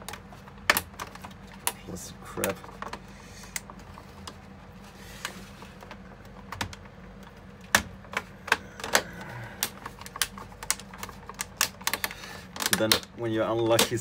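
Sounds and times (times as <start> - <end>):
plastic parts clicking and knocking: 0.0 - 4.4, 5.2 - 14.0.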